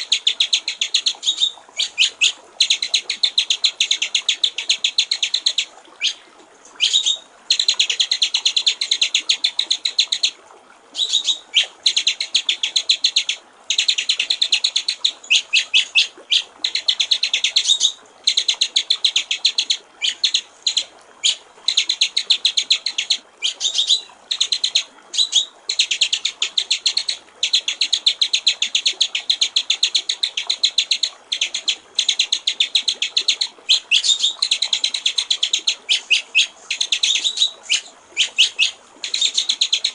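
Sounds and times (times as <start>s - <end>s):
faint trickle of water: 0.0s - 39.9s.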